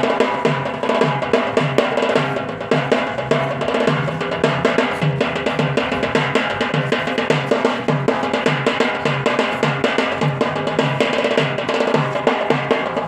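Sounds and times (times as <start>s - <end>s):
drums playing a loud rhythm: 0.0s - 13.0s.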